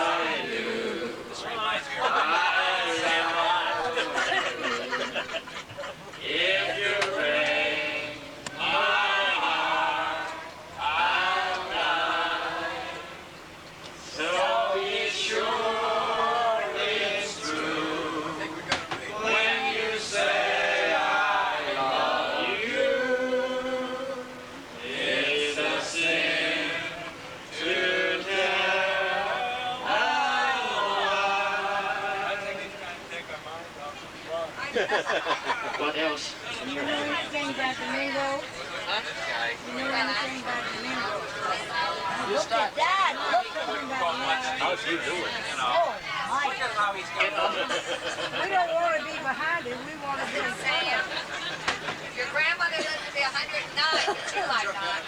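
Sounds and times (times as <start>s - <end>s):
voices singing together: 0.0s - 33.4s, 34.8s - 52.2s.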